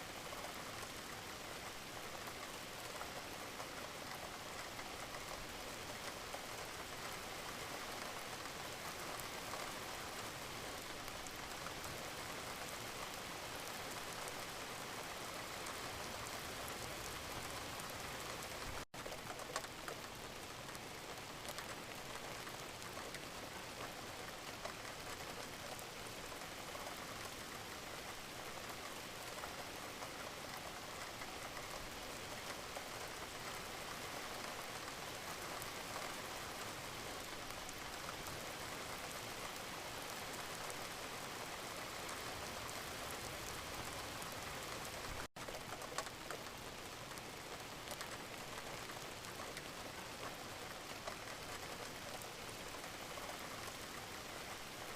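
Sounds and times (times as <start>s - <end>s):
gentle rain falling: 0.0s - 54.9s
raindrop ticks: 0.2s - 14.6s, 15.2s - 54.9s.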